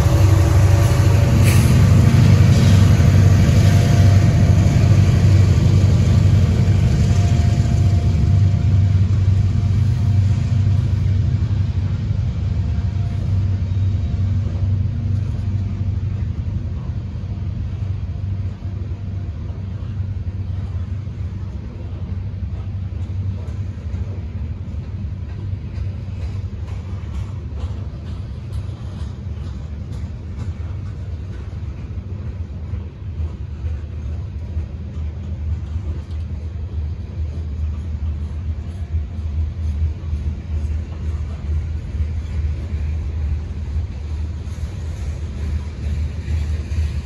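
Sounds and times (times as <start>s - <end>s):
train cars rumbling past: 0.0s - 47.0s.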